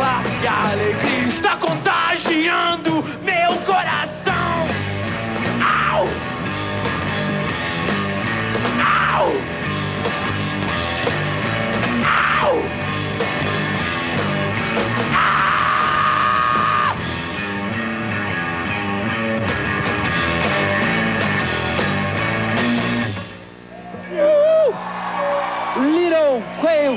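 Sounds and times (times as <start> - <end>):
rock band playing live: 0.0 - 24.1.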